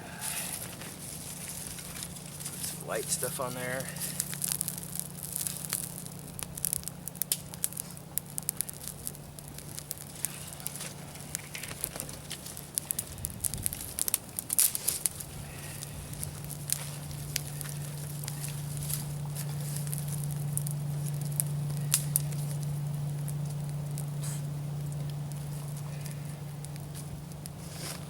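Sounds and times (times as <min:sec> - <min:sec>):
fire crackling and popping: 0:00.0 - 0:28.0
low fire rumble: 0:00.0 - 0:28.0.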